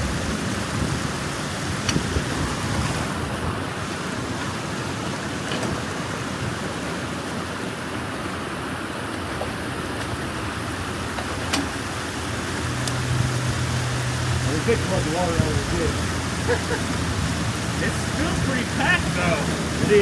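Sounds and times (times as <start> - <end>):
water rushing through drain: 0.0 - 20.0.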